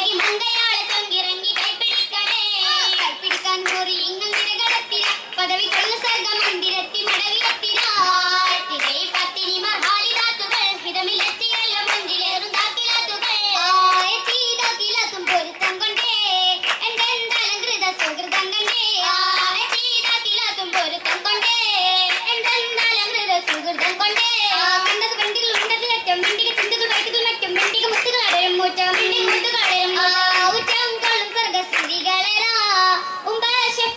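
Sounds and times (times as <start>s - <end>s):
rhythmic hand clapping: 0.0s - 32.6s
women singing: 0.0s - 33.9s.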